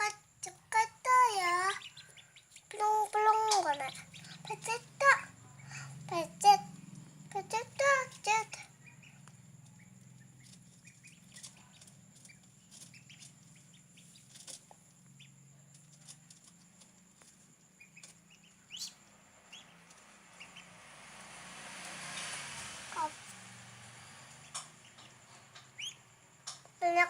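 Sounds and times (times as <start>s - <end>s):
chicks peeping: 0.7s - 20.9s, 24.1s - 27.0s.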